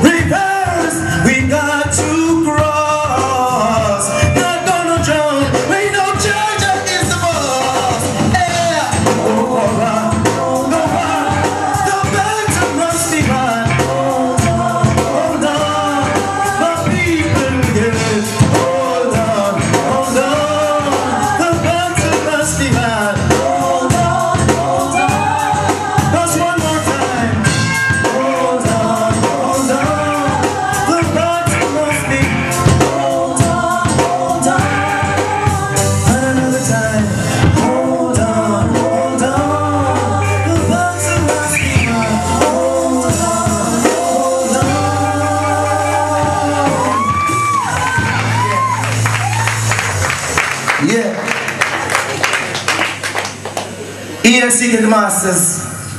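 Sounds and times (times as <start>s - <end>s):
person singing: 0.0s - 48.8s
steady drum beat: 0.0s - 52.6s
reggae band playing: 0.0s - 55.9s.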